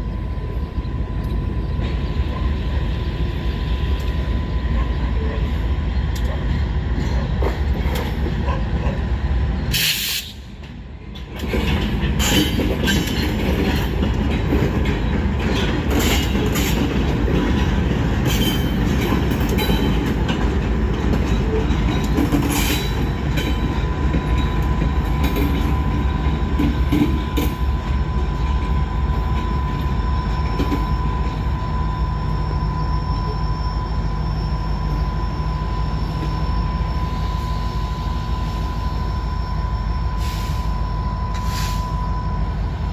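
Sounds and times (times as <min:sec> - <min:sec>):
freight train wheel rumble: 0:00.0 - 0:42.9.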